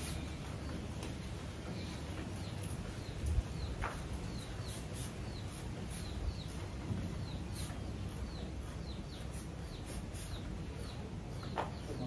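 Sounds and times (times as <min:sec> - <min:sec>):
low outdoor background noise: 0:00.0 - 0:12.0
small bird chirping: 0:00.0 - 0:12.0.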